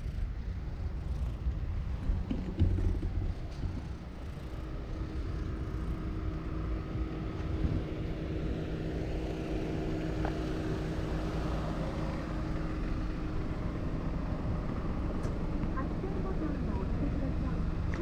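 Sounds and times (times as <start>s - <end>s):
engine humming: 0.0s - 18.0s
low rumble: 0.0s - 18.0s.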